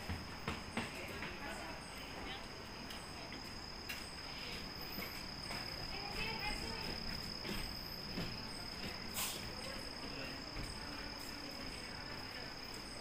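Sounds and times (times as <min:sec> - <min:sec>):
faint voices: 0:00.7 - 0:13.0.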